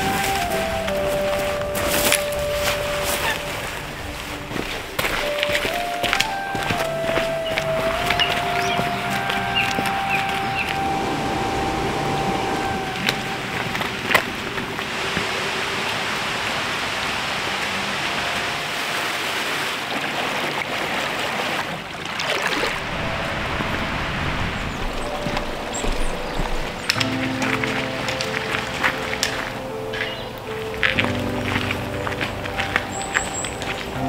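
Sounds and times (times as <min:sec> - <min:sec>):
stream water running over rocks: 0:00.0 - 0:34.0.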